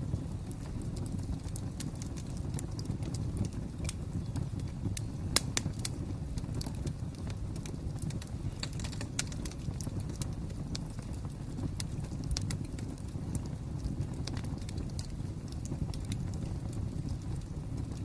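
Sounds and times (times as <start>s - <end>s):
fire pops and snaps: 0.0s - 18.0s
low rumble of flames: 0.0s - 18.0s.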